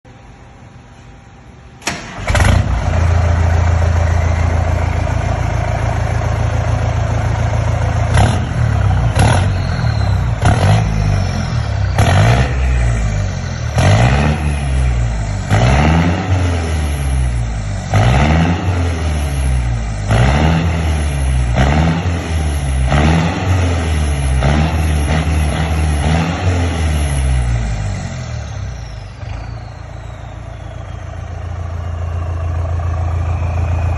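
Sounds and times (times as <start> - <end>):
pickup engine starting and revving: 1.8 - 33.9.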